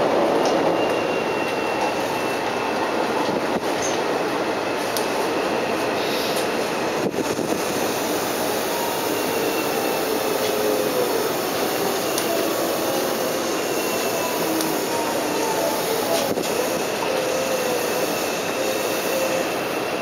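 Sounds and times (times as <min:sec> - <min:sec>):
electric train running rumble: 0:00.0 - 0:20.0.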